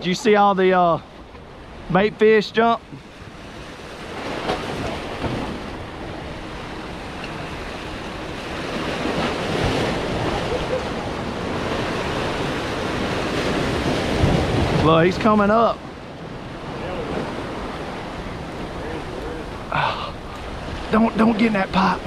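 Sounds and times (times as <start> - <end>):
sea waves breaking against rocks: 0.3 - 22.0
wind on microphone: 2.9 - 21.1.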